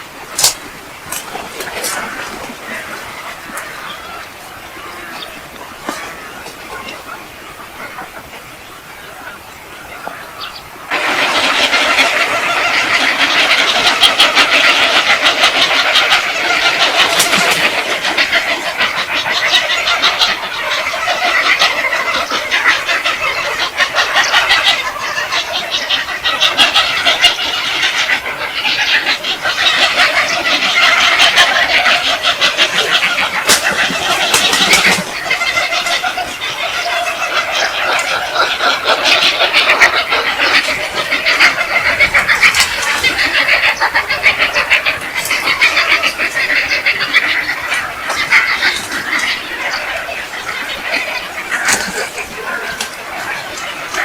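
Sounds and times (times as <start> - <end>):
flock of birds chattering: 0.0 - 54.0.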